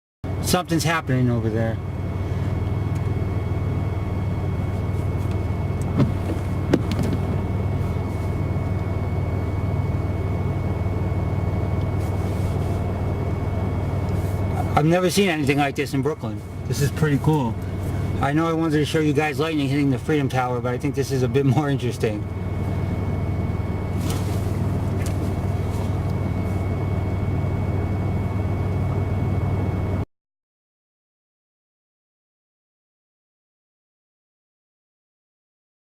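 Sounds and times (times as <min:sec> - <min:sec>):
low city rumble: 0:00.2 - 0:30.0
low machine hum: 0:00.2 - 0:30.0
faint high whine: 0:00.3 - 0:30.0.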